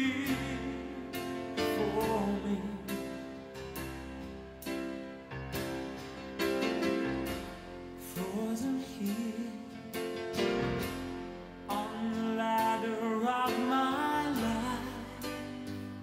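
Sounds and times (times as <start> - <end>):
slow plucked string music: 0.0 - 16.0.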